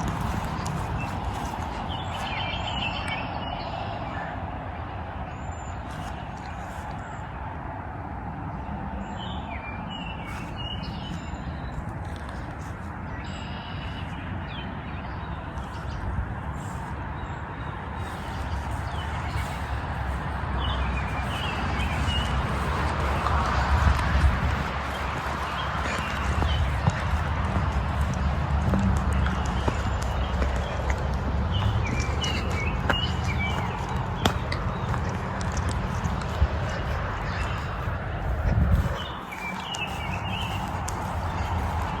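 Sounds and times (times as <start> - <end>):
birds chirping: 0.0 - 7.5, 8.2 - 42.0
steady rushing background noise: 0.0 - 42.0.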